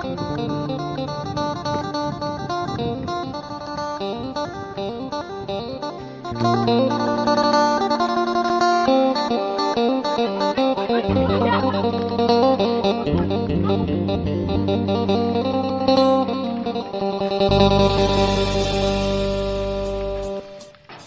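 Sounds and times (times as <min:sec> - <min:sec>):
plucked guitar music: 0:00.0 - 0:21.0.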